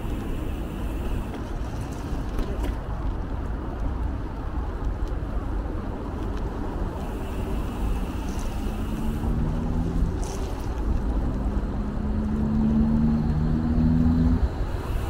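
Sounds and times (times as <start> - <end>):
passing road traffic hum: 0.0 - 15.0
wind rumbling on microphone: 0.0 - 15.0.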